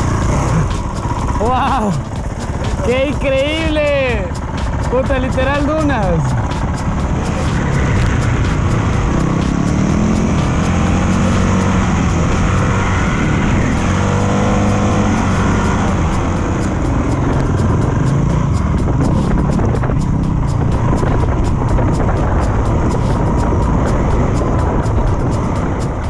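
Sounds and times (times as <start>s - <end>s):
dirt bike engine revving: 0.0s - 26.0s
wind buffeting microphone: 0.0s - 26.0s.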